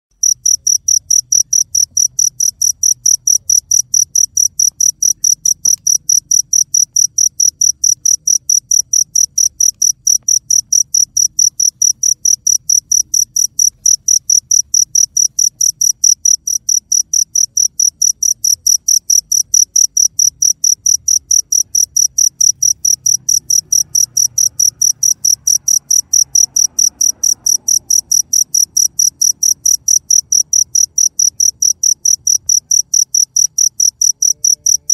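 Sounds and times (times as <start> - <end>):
cricket chirping: 0.2 - 34.9.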